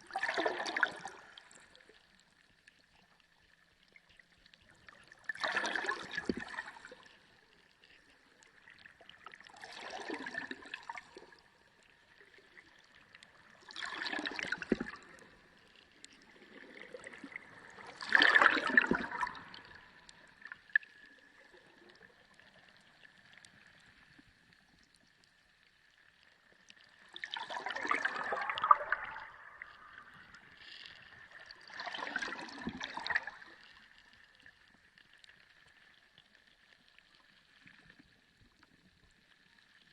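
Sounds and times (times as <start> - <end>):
water gurgling and sloshing: 0.0 - 39.9.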